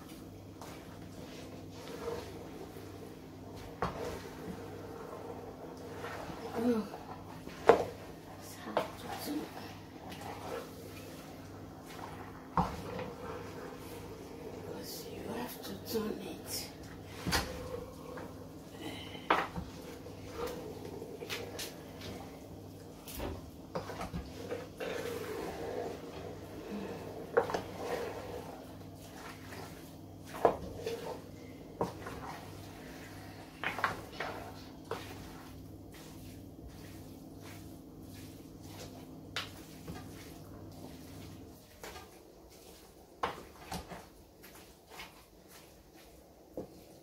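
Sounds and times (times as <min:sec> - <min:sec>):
low steady hum: 0:00.0 - 0:47.0
wooden spoon stirring soup: 0:00.0 - 0:47.0.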